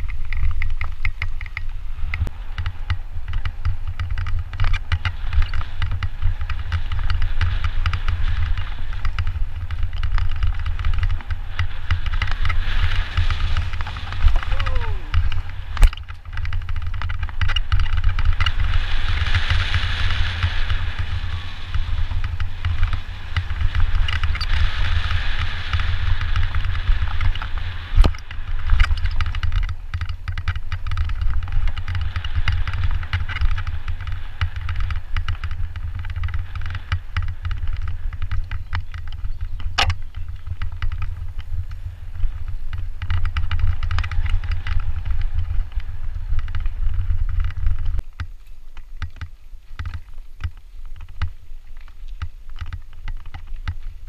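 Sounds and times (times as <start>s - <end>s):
bike rattling: 0.0s - 54.0s
tyres crunching on gravel: 0.0s - 54.0s
wind rumbling on microphone: 0.0s - 54.0s.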